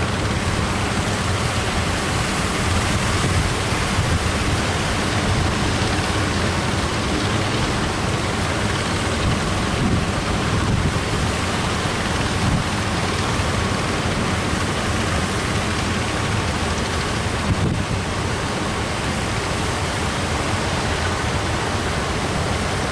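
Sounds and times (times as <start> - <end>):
breaking surf: 0.0 - 22.9
wind buffeting microphone: 0.0 - 22.9.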